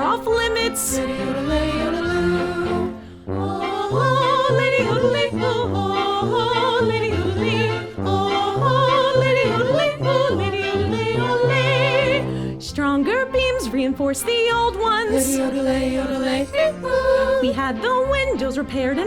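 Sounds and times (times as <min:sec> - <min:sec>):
low musical accompaniment: 0:00.0 - 0:19.0
operatic singing with vibrato: 0:00.0 - 0:19.0.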